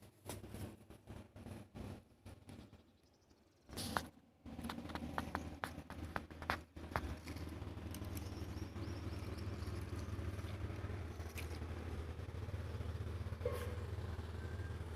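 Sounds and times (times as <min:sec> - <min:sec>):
small tractor engine running: 0:00.2 - 0:02.9, 0:03.7 - 0:14.9.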